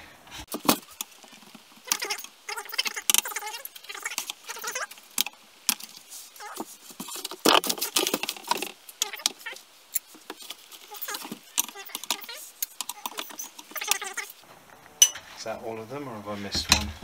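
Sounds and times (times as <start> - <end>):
plastic parts clicking and scraping: 0.4 - 14.4.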